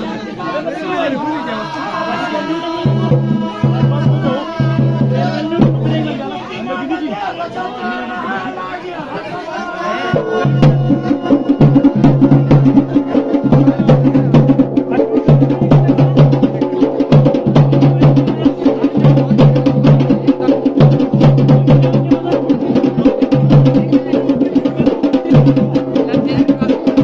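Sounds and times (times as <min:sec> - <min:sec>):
fast folk drumming: 0:02.1 - 0:07.4, 0:08.4 - 0:27.0.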